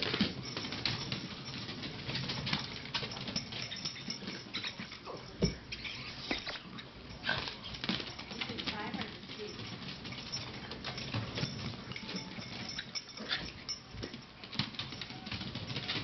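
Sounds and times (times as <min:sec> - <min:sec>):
dog paws pattering on stairs: 0:00.0 - 0:16.0.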